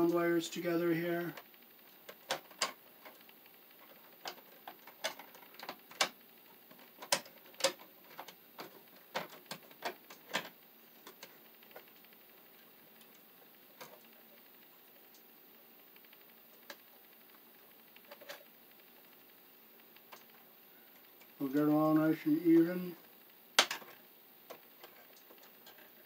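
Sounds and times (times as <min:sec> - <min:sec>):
wires clicking and scraping: 0:00.0 - 0:26.0.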